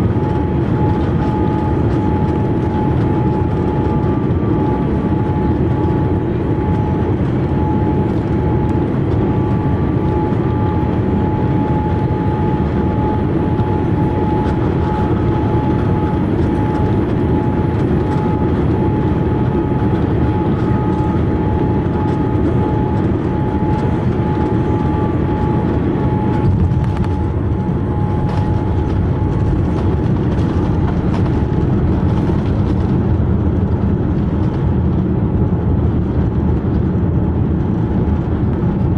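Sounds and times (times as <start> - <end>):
aircraft engine and airflow roar: 0.0 - 38.9
thin steady whine: 0.0 - 38.9.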